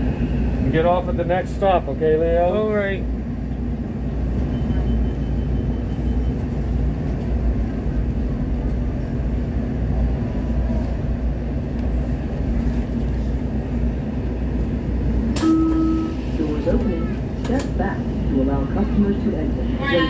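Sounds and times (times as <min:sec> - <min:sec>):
train car rumble: 0:00.0 - 0:20.0.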